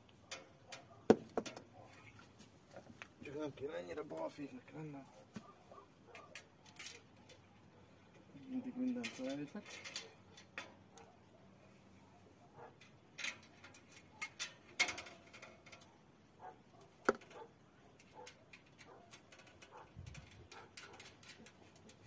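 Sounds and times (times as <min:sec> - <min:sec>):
clicks and knocks of cage parts: 0:00.0 - 0:11.4, 0:12.5 - 0:22.0.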